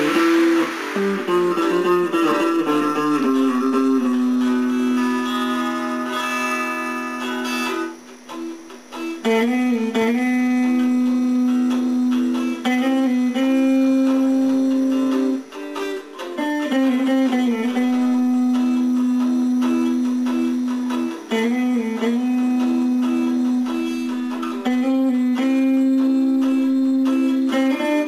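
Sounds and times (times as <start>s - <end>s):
sliding guitar notes: 0.0s - 28.0s.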